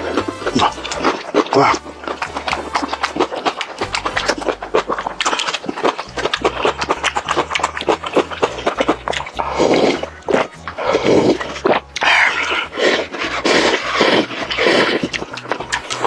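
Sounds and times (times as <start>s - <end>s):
crunching crispy fried chicken: 0.0s - 16.0s.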